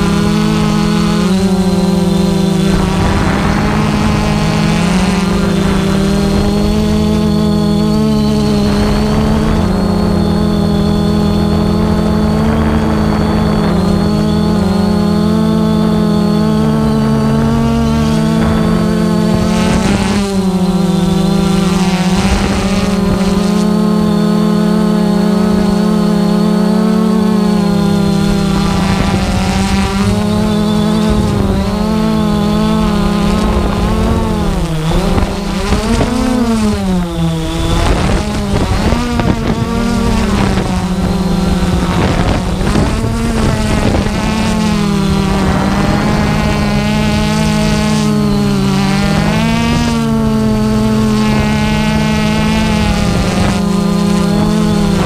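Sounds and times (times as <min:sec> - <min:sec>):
drone propellers humming: 0:00.0 - 0:55.0
faint high whine: 0:00.0 - 0:55.0.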